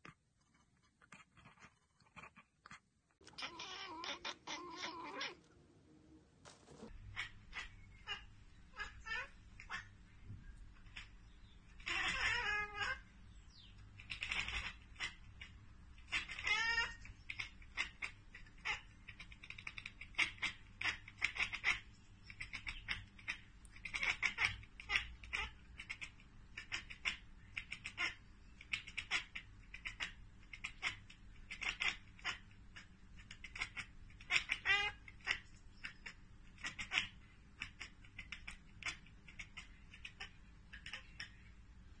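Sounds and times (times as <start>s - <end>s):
cat chattering: 0.5s - 5.6s, 6.6s - 41.6s
cat chirping: 3.2s - 5.6s, 6.5s - 41.6s.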